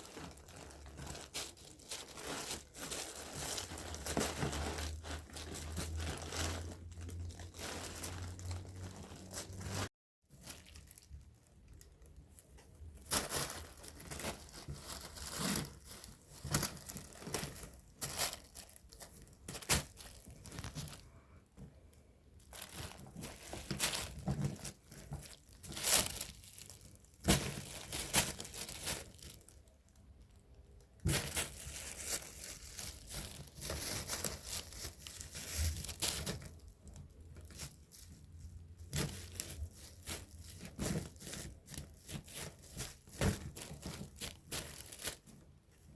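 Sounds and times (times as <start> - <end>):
rustling and crinkling: 0.0 - 45.9.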